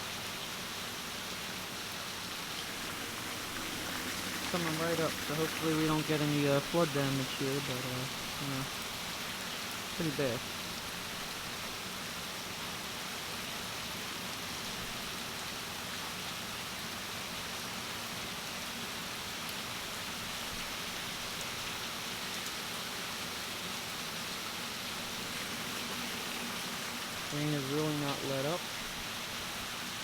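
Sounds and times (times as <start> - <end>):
heavy rain pouring: 0.0 - 16.9, 19.0 - 30.0.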